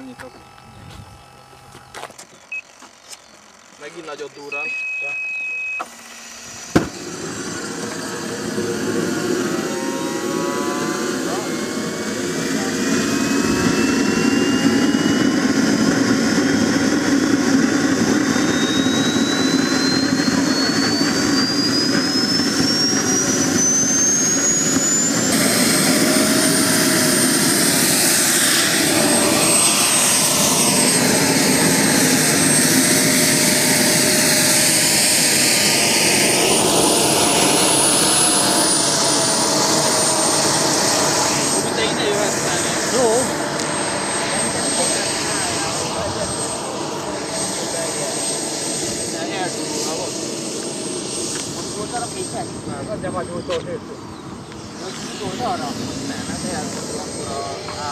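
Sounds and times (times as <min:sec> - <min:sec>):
jet turbine whine: 0:00.0 - 0:57.9.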